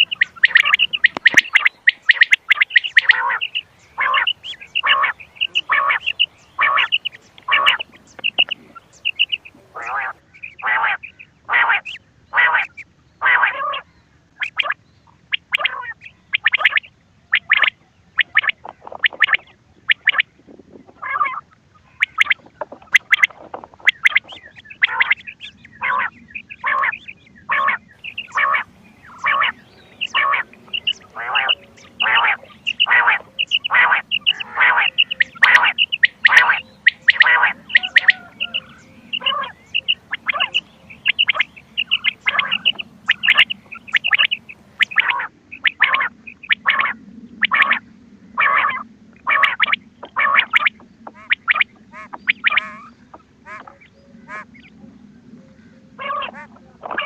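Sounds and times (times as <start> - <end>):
quail calling: 0.0 - 20.3, 20.9 - 47.8, 48.4 - 54.7, 55.9 - 57.0.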